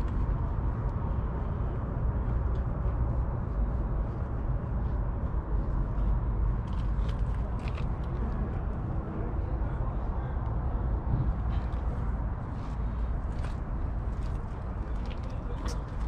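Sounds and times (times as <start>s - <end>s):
faint outdoor background noise: 0.0s - 16.0s
wind buffeting microphone: 0.0s - 16.0s.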